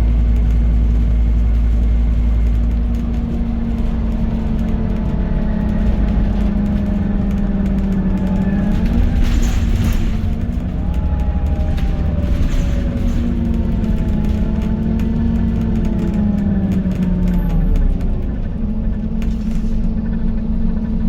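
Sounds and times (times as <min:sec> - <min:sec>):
bus engine droning: 0:00.0 - 0:21.0.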